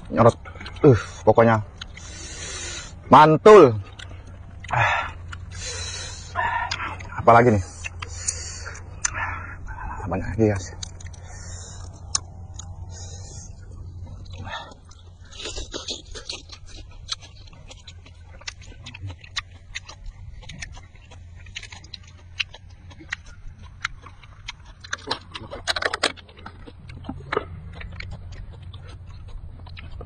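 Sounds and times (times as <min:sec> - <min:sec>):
chewing and lip-smacking: 0:00.0 - 0:30.0.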